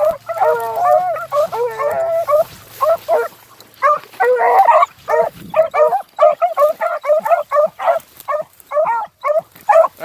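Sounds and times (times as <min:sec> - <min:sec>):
hounds baying: 0:00.0 - 0:10.0
short yelping barks: 0:00.0 - 0:10.0.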